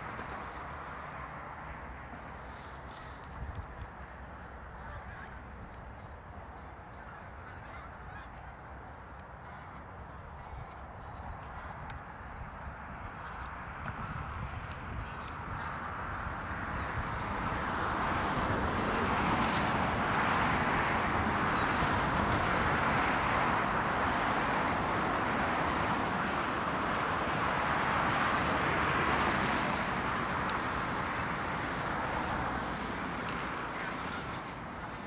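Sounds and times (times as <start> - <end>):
passing vehicle traffic: 0.0 - 35.0.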